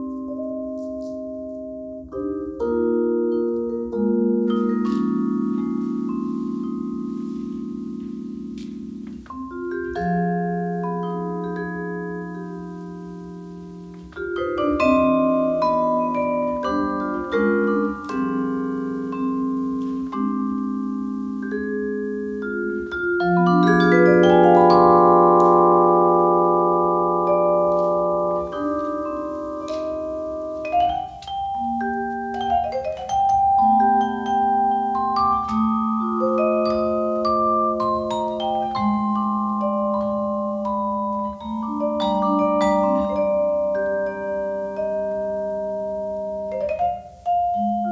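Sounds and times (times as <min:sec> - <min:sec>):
vibraphone playing slow blues: 0:00.0 - 0:47.9.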